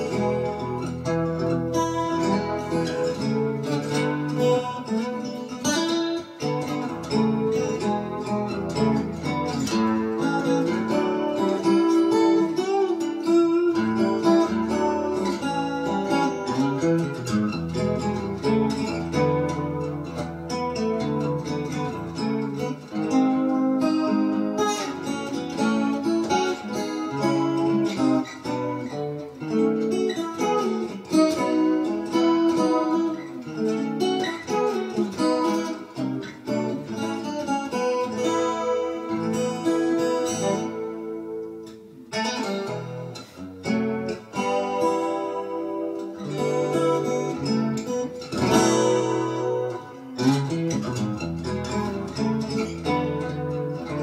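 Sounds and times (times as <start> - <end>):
guitar background music: 0.0 - 54.0.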